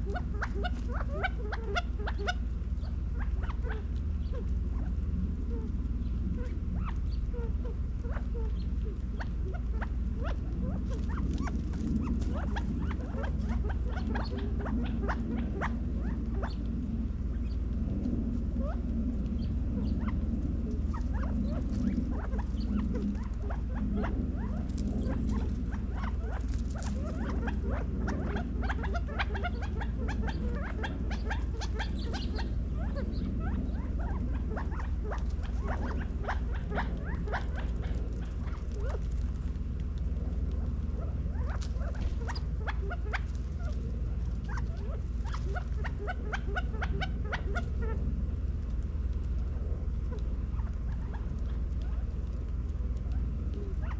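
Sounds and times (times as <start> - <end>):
low steady hum: 0.0 - 53.9
quail pecking seed on concrete: 0.0 - 53.9.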